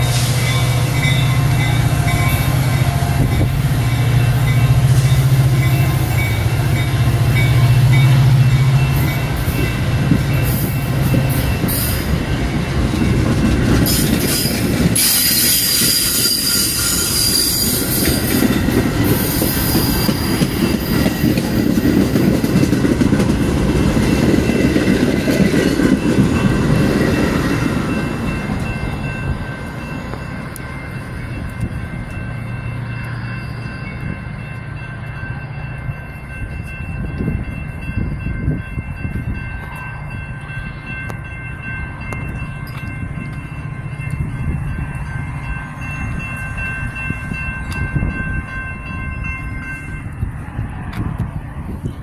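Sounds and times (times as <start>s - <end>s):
level crossing warning bells: 0.0s - 50.8s
train cars rumbling past: 0.0s - 52.0s.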